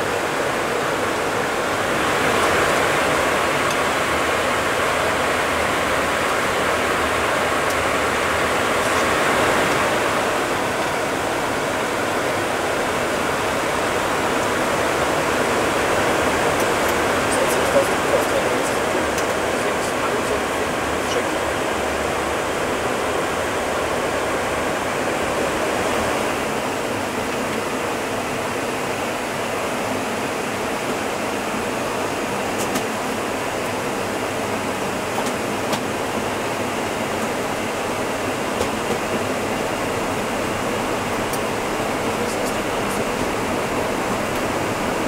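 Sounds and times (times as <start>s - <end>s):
air-conditioning: 0.0s - 45.0s.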